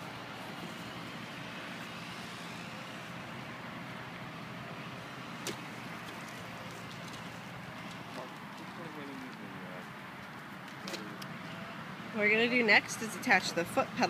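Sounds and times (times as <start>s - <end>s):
outdoor background hiss and rumble: 0.0s - 14.0s.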